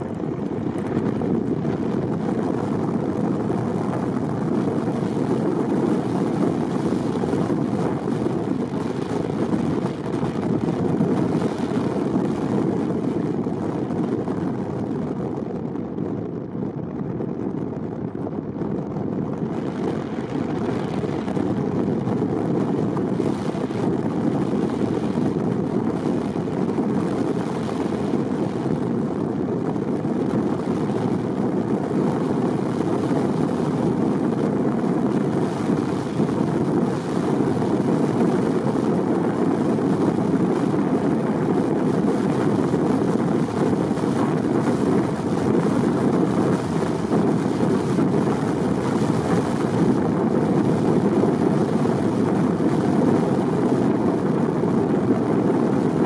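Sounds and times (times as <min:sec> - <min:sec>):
car road and engine rumble: 0:00.0 - 0:54.2.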